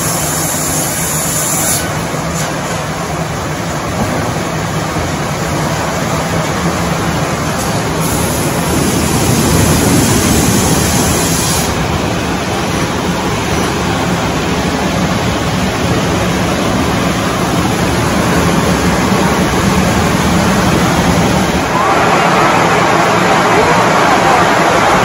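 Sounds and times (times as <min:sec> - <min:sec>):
sawmill machinery running: 0:00.0 - 0:25.0.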